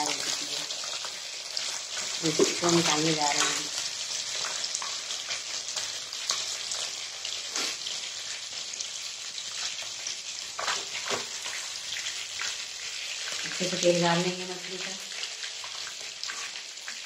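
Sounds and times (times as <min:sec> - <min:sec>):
fish deep-frying in oil: 0:00.0 - 0:17.0.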